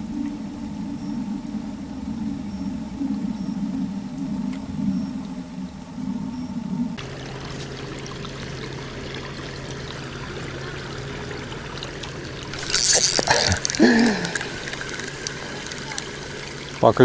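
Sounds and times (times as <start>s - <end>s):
river water lapping: 0.0s - 16.9s.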